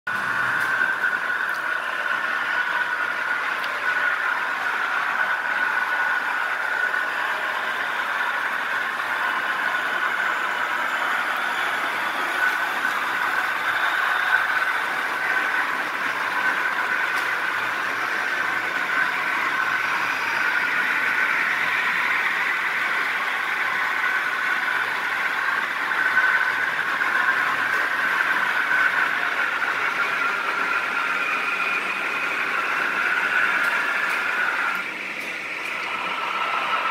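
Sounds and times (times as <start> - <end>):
model train motors whirring: 0.1 - 36.9.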